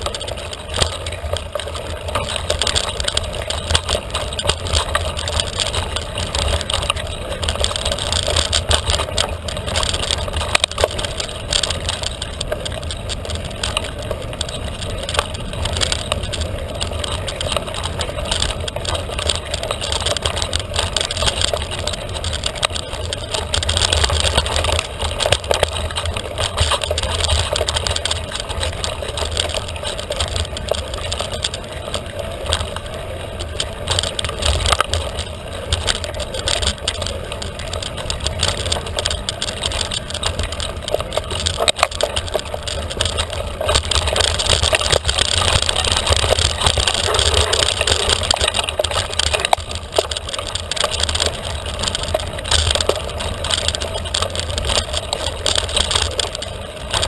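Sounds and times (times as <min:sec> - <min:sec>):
bike frame rattling and clicking: 0:00.0 - 0:57.0.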